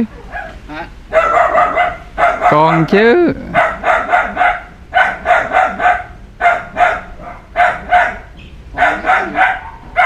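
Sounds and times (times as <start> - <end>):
animal yelping calls: 0.1 - 10.0.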